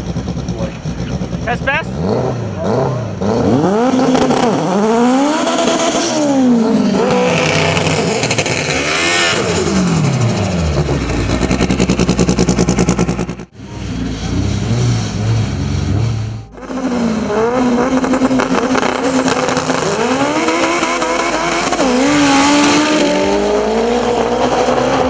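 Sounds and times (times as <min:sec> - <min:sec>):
car engine revving hard: 0:00.0 - 0:25.0
engine rapid stutter: 0:00.0 - 0:25.0.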